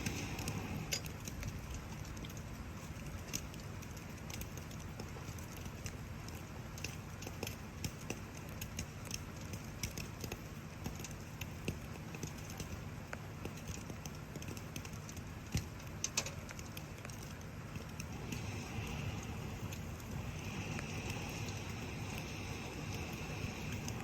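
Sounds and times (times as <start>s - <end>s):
rain hissing: 0.0s - 7.8s, 10.6s - 24.0s
campfire crackling and popping: 0.0s - 24.0s.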